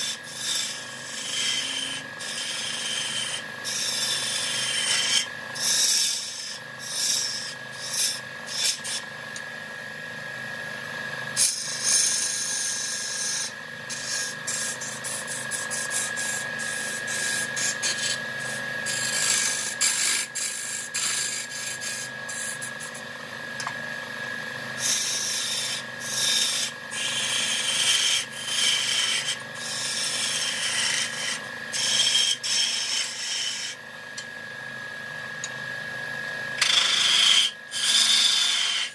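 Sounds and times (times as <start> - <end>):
tool scraping spinning wood: 0.0 - 9.4, 11.3 - 33.8
wood lathe high whine: 0.0 - 38.9.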